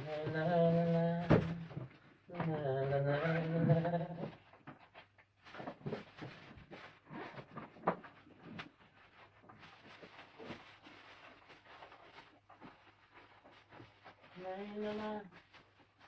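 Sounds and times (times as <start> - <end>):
wrapping sheet rustling and crinkling: 2.8 - 16.0.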